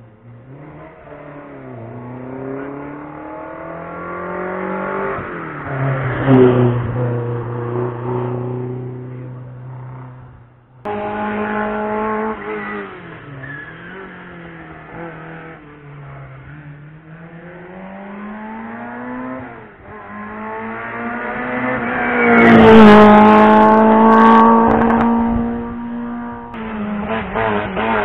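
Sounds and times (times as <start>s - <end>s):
race car engine accelerating: 0.3s - 28.0s.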